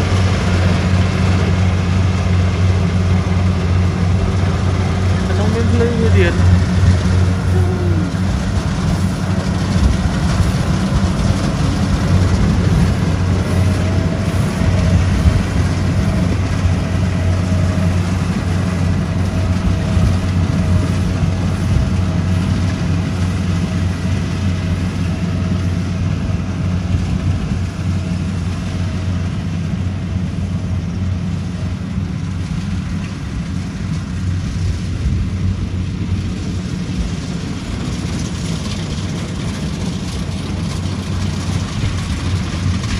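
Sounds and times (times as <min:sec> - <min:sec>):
combine harvester engine droning: 0:00.0 - 0:42.9.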